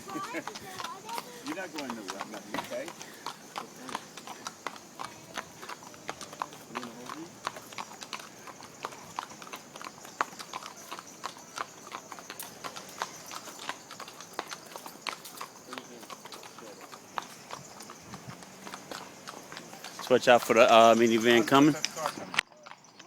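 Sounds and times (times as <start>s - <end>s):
hooves clip-clopping on hard ground: 0.0s - 23.0s.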